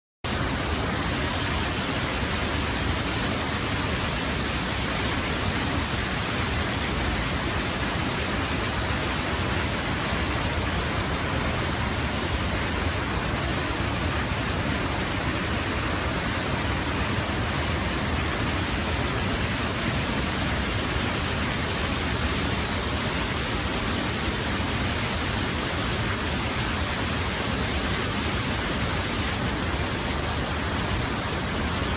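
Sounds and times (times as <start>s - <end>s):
waterfall pouring into pool: 0.3s - 31.9s.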